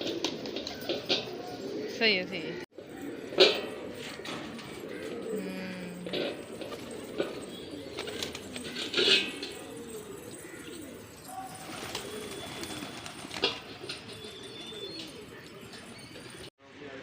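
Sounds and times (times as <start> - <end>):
pigeons cooing: 0.0 - 16.5.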